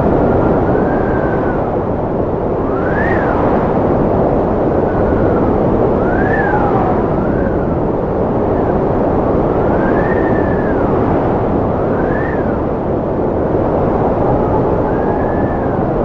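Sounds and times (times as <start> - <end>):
strong wind rushing: 0.0 - 16.0
wind howling whistle: 0.0 - 16.0.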